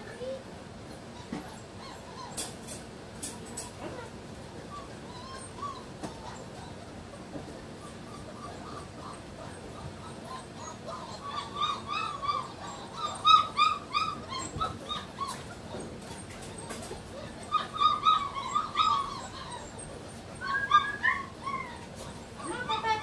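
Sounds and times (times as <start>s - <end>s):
puppies whining and yipping: 0.1s - 23.0s.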